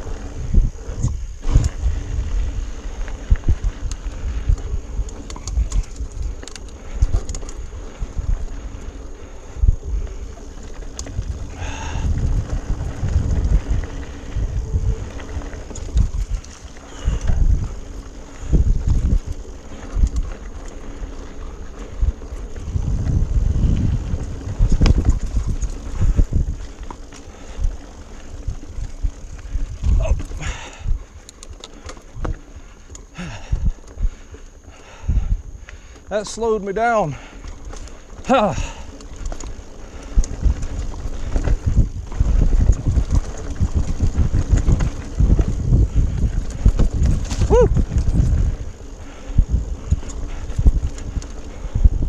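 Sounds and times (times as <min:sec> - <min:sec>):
bike rattling over rocks: 0:00.0 - 0:52.0
wind buffeting microphone: 0:00.0 - 0:52.0.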